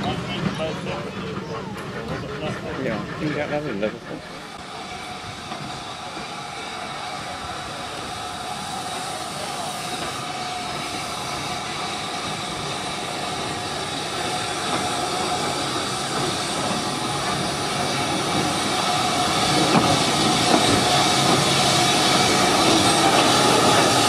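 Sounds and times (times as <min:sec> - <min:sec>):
steam locomotive hissing: 0:00.0 - 0:24.0.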